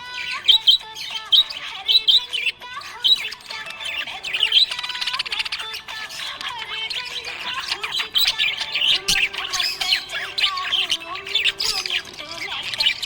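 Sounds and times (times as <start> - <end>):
budgerigars chirping: 0.0 - 13.0
buzzy bird chatter: 0.0 - 13.0.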